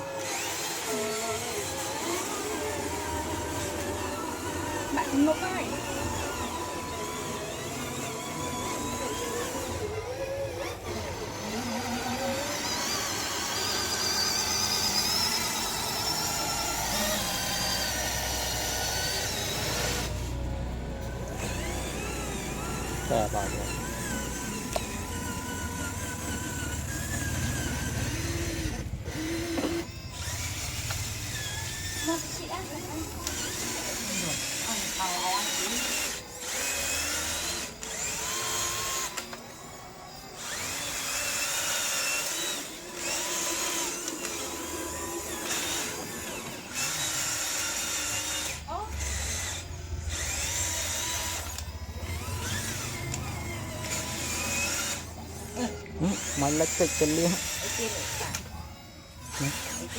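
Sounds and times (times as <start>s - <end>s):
toy tractor motor whining: 0.0s - 59.9s.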